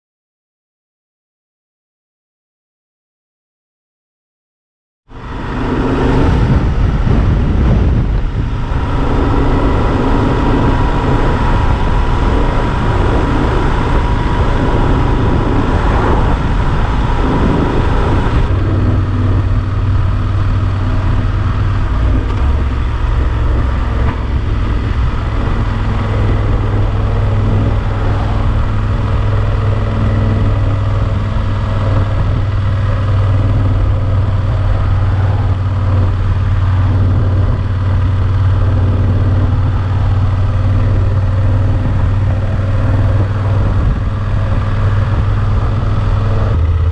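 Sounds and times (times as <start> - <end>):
motorcycle engine hum: 5.1 - 46.9
wind and road hiss: 5.1 - 46.9.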